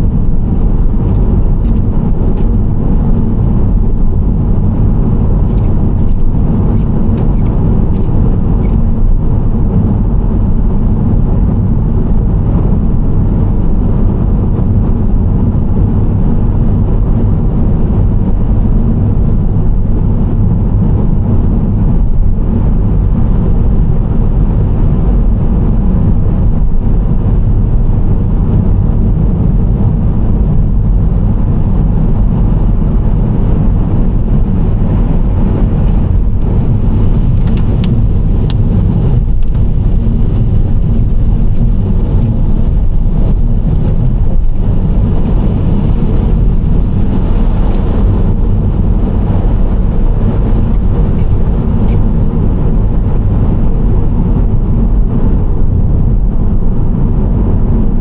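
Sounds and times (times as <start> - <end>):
minivan road noise rumble: 0.0 - 58.0.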